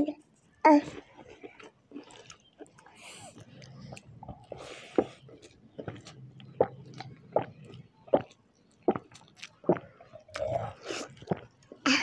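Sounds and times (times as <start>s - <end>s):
wet chewing with mouth clicks: 0.8s - 11.9s.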